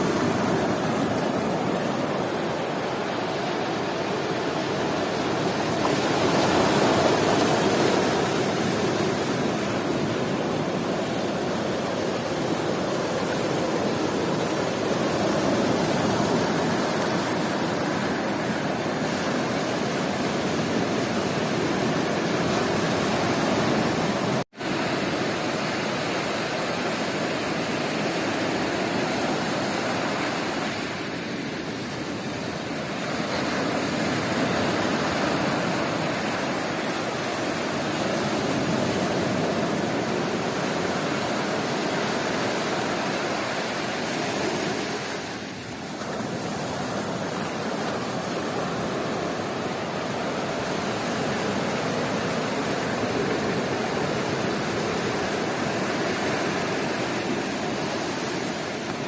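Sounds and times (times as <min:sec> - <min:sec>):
waves breaking on a beach: 0:00.0 - 0:59.0.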